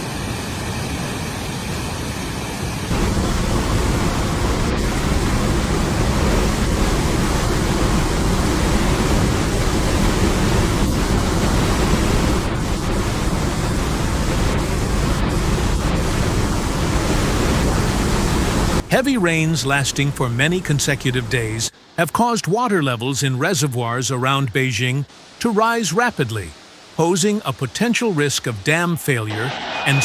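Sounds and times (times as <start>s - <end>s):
rushing water: 2.9s - 30.0s.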